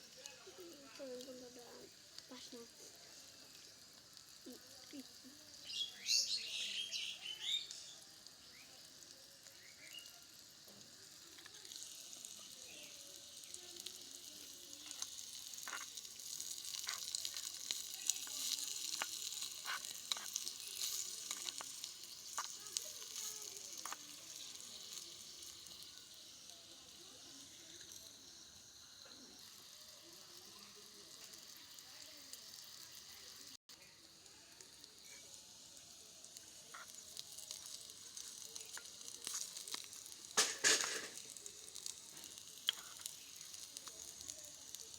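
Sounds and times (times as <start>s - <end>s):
food sizzling in hot oil: 0.0s - 44.9s.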